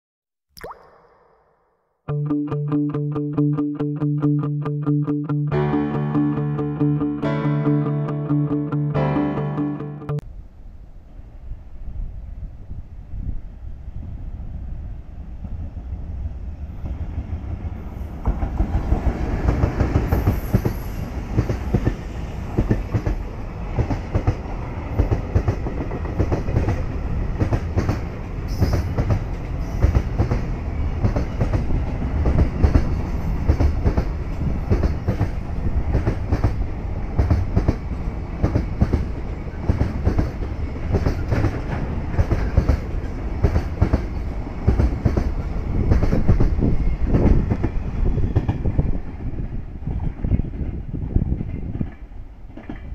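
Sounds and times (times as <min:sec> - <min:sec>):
freight train rumbling past: 0:10.3 - 0:52.9.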